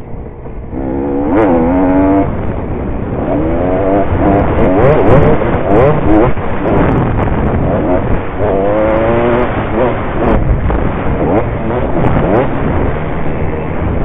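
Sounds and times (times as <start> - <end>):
wind and track noise: 0.0 - 14.0
dirt bike engine revving: 0.6 - 14.0.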